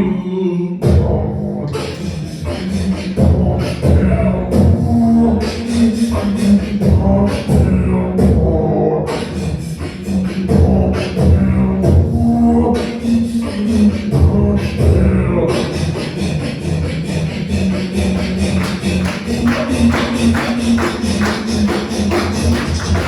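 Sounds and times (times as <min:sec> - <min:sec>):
beatboxing: 0:00.0 - 0:23.0.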